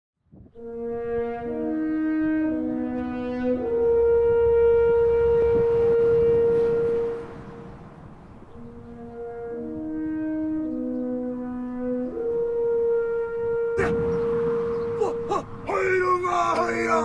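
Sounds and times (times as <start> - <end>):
horn-like wind instrument notes: 0.4 - 17.0.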